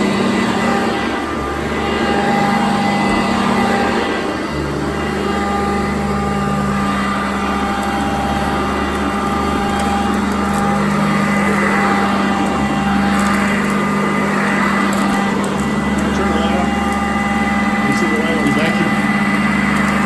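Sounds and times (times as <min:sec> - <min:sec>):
vacuum cleaner running on carpet: 0:00.0 - 0:20.0.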